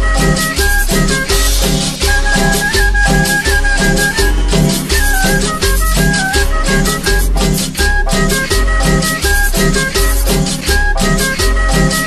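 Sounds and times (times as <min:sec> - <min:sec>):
pulsing bass notes: 0:00.0 - 0:12.0
repeating melody: 0:00.0 - 0:12.0
shaker beat: 0:00.0 - 0:12.0.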